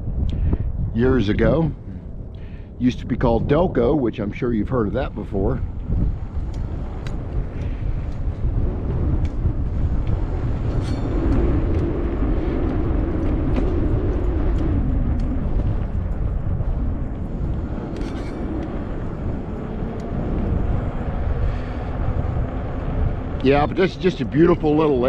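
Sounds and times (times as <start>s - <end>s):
low hum: 0.0s - 25.0s
tyre and road noise: 0.0s - 25.0s
wind buffeting microphone: 0.0s - 25.0s.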